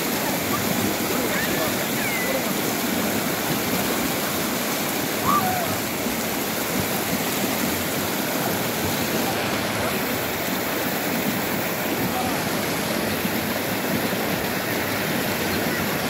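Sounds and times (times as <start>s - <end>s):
fast-flowing river water: 0.0s - 16.0s
people splashing in water: 0.0s - 16.0s.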